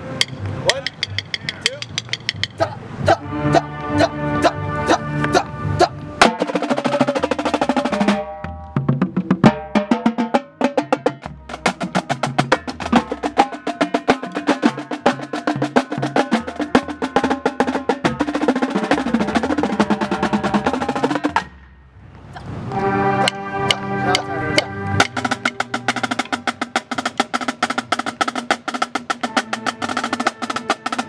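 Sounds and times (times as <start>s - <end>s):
drum roll: 0.0s - 3.2s, 5.3s - 21.6s, 23.2s - 31.0s
marching drumline playing: 0.0s - 21.7s, 22.8s - 31.0s.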